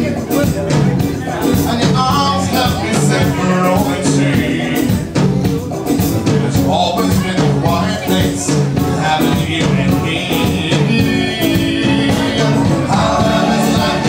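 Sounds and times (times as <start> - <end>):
live band playing: 0.0 - 14.0
man singing: 0.0 - 14.0.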